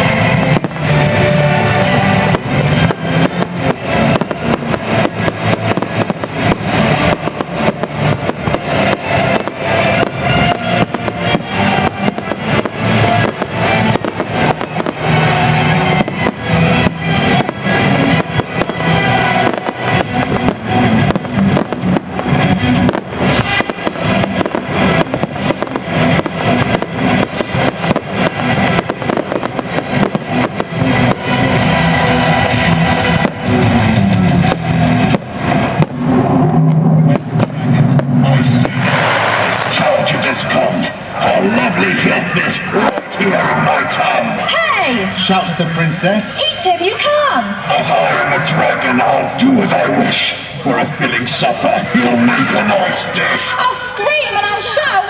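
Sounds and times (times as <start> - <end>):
fireworks bursting: 0.0 - 55.0
loud music playing: 0.0 - 55.0.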